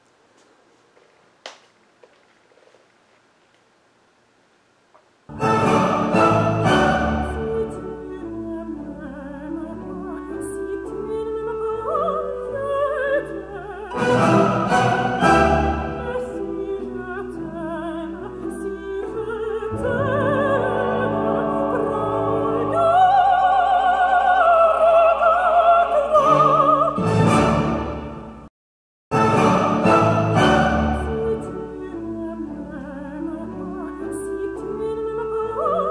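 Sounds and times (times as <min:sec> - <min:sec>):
opera singer with orchestra: 0:05.3 - 0:28.5, 0:29.2 - 0:35.9.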